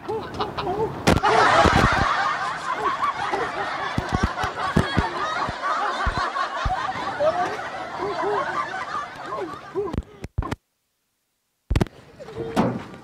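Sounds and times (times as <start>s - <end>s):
snickering laughter: 0.0s - 10.6s.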